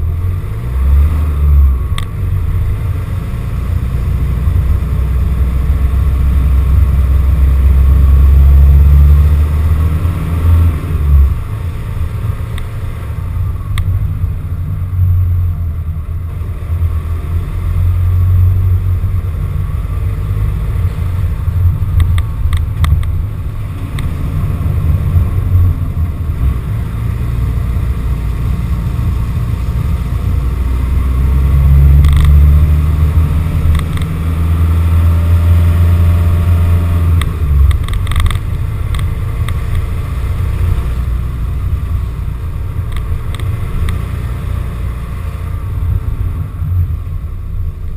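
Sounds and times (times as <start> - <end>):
van engine rumbling: 0.0 - 47.9.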